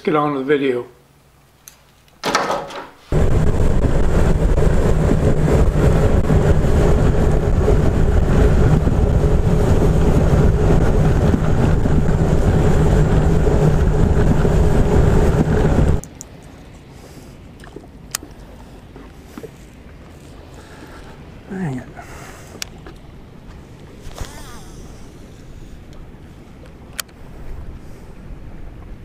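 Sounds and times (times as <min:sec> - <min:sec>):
boat motor droning: 0:03.1 - 0:29.0
wind and water noise: 0:03.1 - 0:29.0.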